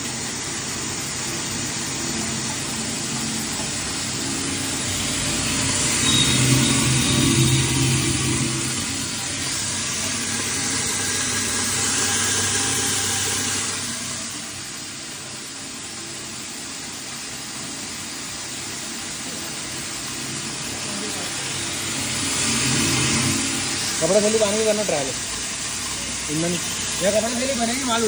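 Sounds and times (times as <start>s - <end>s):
grinding mill motor hum: 0.0s - 28.0s.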